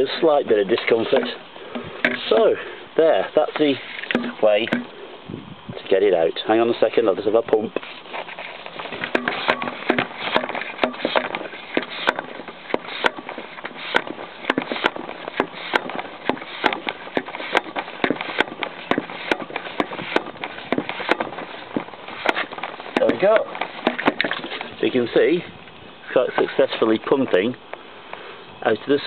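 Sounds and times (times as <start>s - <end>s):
constant noise: 0.0s - 29.0s.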